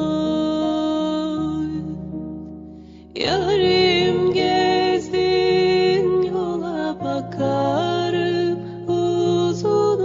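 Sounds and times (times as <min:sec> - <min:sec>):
slow song with wavering melody: 0:00.0 - 0:10.0.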